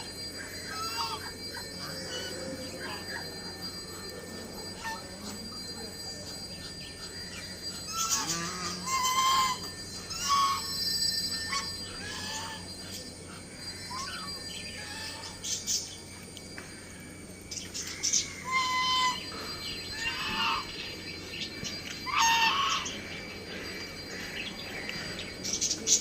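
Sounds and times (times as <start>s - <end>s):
ducks calling: 0.0s - 16.2s, 17.5s - 26.0s
steady low background noise: 0.0s - 26.0s.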